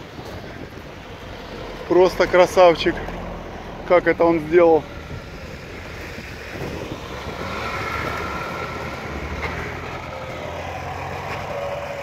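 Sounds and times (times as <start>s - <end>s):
off-road vehicle engines running: 0.0s - 12.0s.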